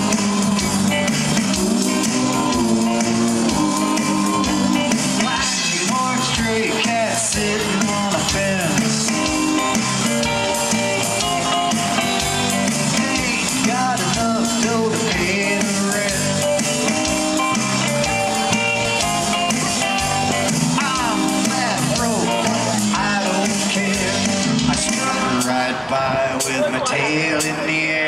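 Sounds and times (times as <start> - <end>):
electric bass: 0.0 - 26.7
drum kit: 0.0 - 26.8
electric guitars: 0.0 - 28.0.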